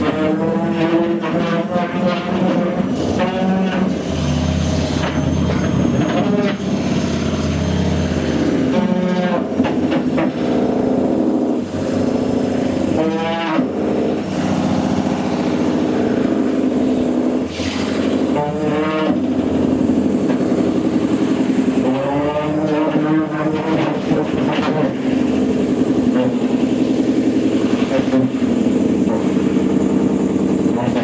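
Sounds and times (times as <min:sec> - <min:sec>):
washing machine motor spinning: 0:00.0 - 0:31.0.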